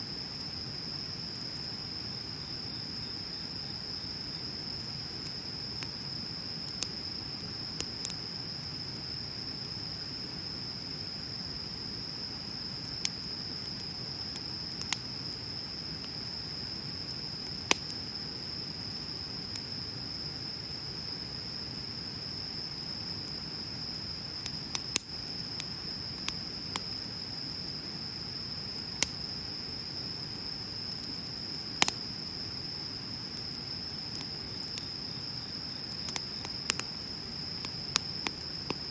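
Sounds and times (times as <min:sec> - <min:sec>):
bonfire burning with soft rush: 0:00.0 - 0:38.9
crickets chirring: 0:00.0 - 0:38.9
fire crackles and pops: 0:00.0 - 0:38.9.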